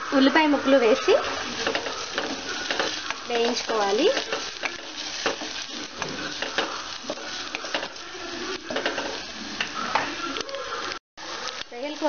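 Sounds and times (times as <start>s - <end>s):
onions sizzling in oil: 0.0s - 12.0s
wooden spatula scraping pot: 0.6s - 10.9s.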